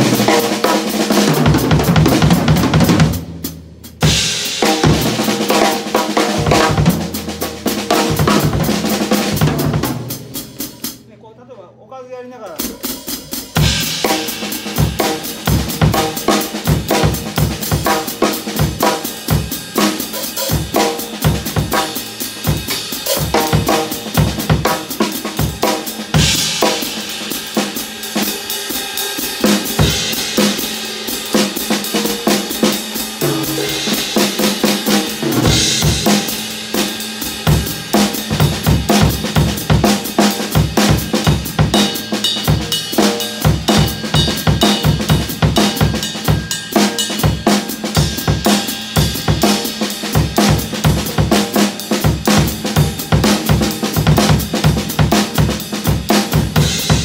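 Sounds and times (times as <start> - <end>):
drum kit groove: 0.0 - 57.0.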